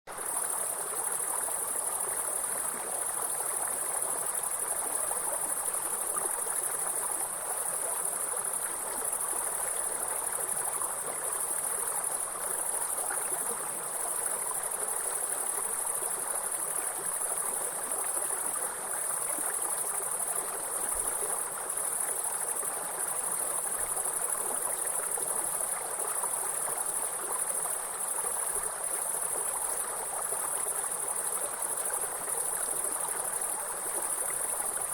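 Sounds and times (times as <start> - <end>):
flowing water: 0.1 - 34.9.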